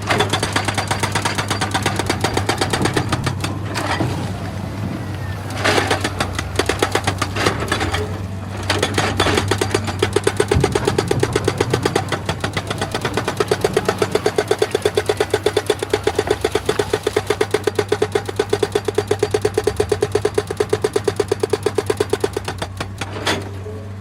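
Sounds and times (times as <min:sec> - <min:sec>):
hydraulic rock breaker hammering stone: 0:00.0 - 0:04.2, 0:05.5 - 0:23.7
diesel engine running: 0:00.0 - 0:24.0.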